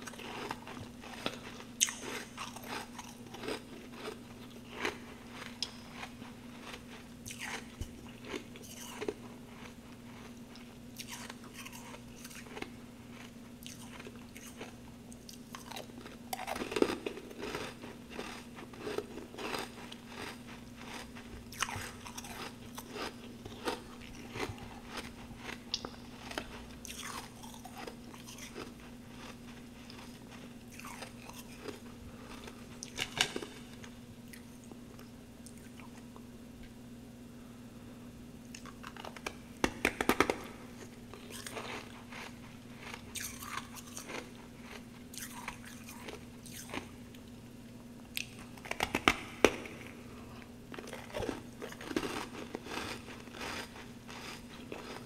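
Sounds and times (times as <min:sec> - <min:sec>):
person chewing crunchy frost: 0:00.0 - 0:36.2, 0:38.5 - 0:47.3, 0:48.1 - 0:55.0
steady low hum: 0:00.0 - 0:55.0.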